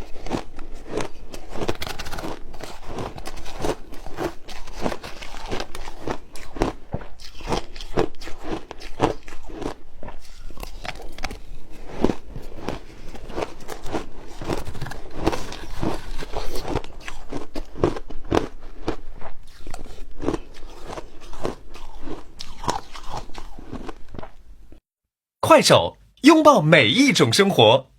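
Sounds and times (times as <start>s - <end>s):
person chewing ice: 0.0s - 24.4s.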